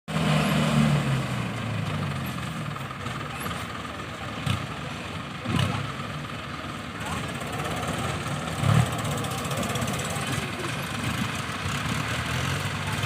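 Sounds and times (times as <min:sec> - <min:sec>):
diesel tractor engine running: 0:00.1 - 0:13.0.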